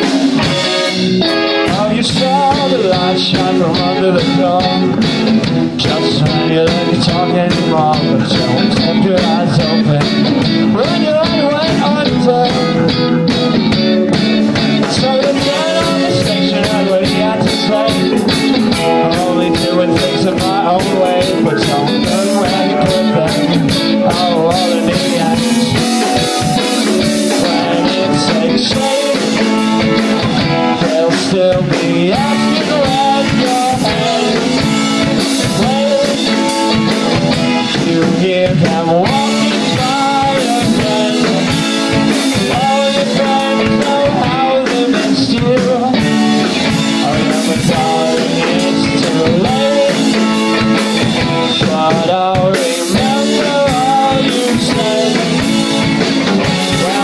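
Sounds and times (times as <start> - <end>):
dense drumming: 0.0 - 57.0
rock band playing live: 0.0 - 57.0.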